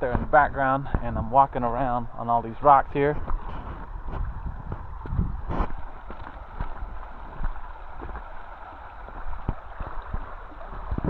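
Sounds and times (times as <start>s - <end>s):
stream rushing: 1.6s - 11.0s.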